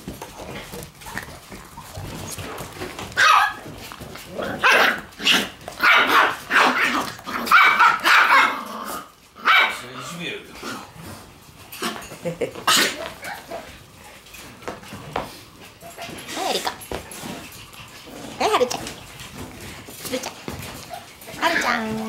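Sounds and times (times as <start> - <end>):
puppies barking and yapping: 0.0 - 22.0.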